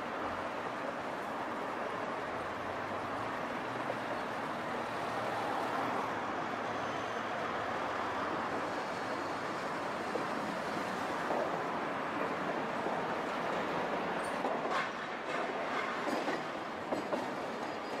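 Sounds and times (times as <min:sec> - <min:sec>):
city road traffic: 0:00.0 - 0:18.0.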